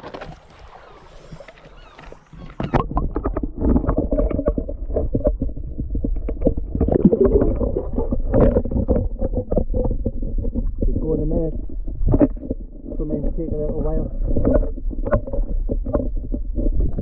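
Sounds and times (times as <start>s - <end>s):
underwater sea water surging: 0.0s - 17.0s.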